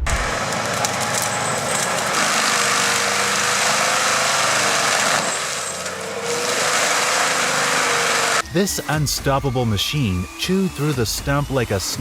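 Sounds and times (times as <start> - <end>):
stump grinder grinding wood: 0.0 - 11.8.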